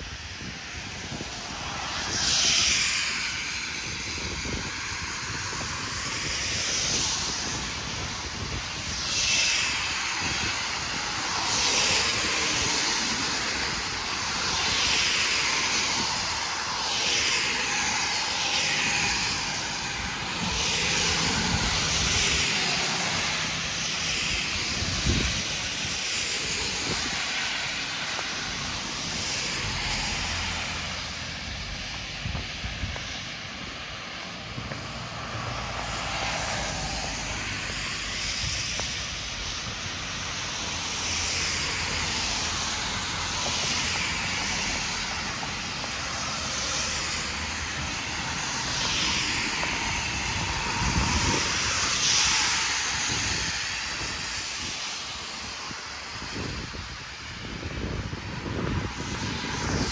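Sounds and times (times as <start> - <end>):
cars passing: 0.0 - 59.9
low traffic rumble: 0.0 - 59.9
tyre hiss: 1.1 - 56.6.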